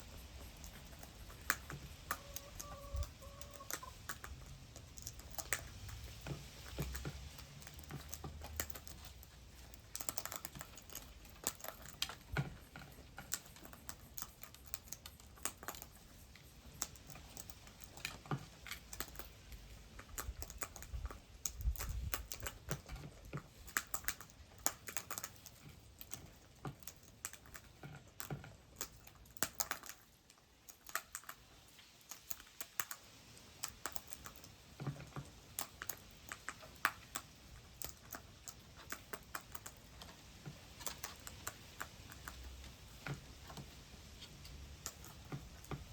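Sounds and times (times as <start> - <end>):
birds pecking seed: 0.0 - 45.9.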